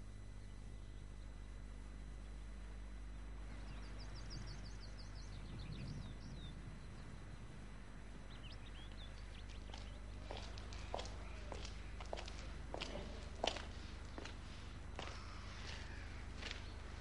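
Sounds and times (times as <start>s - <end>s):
low background hum: 0.0s - 17.0s
songbird chirping: 0.3s - 17.0s.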